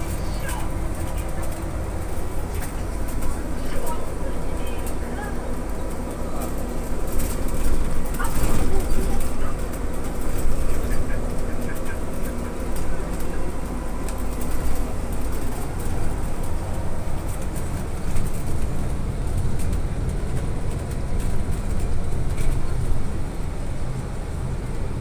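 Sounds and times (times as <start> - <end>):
light rattles and clicks: 0.0 - 24.0
low road rumble: 0.0 - 25.0.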